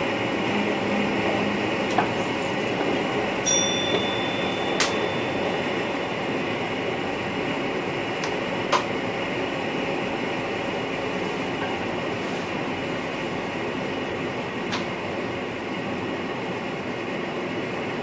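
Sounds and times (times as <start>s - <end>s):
electric train running noise: 0.0s - 18.0s.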